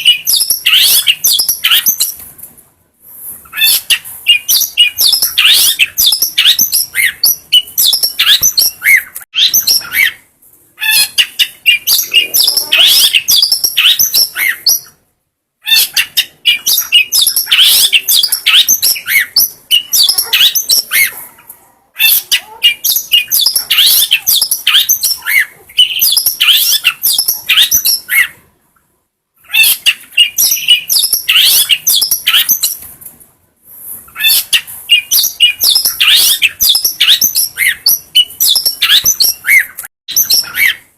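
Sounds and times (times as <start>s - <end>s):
bird chattering song: 0.0s - 2.2s, 3.5s - 15.0s, 15.6s - 21.2s, 22.0s - 28.4s, 29.4s - 32.8s, 34.1s - 40.9s.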